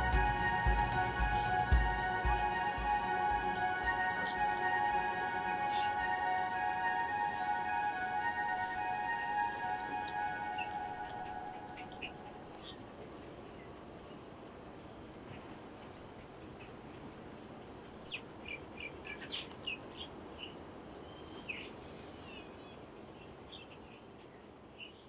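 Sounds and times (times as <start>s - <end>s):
steady low hiss: 0.0s - 25.0s.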